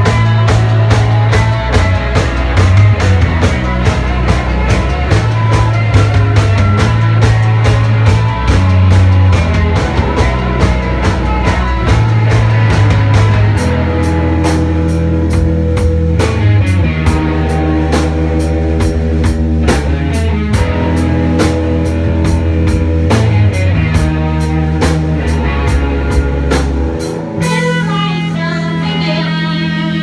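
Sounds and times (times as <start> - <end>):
drum kit with cymbals: 0.0 - 30.0
rock band playing: 0.0 - 30.0.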